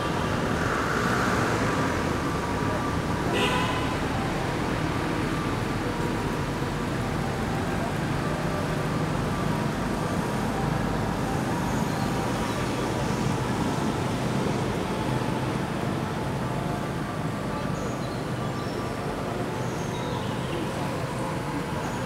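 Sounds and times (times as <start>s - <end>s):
low rumble of distant traffic: 0.0s - 22.0s.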